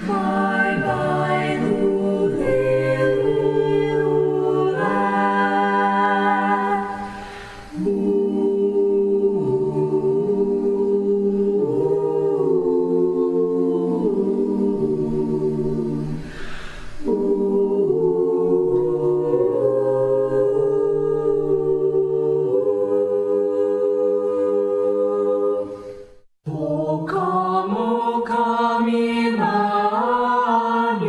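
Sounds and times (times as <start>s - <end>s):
choir singing a cappella: 0.0s - 31.0s.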